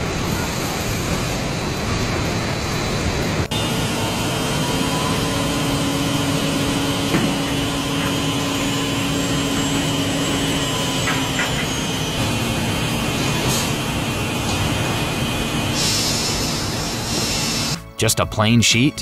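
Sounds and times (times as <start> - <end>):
moulding machinery drone: 0.0 - 17.9.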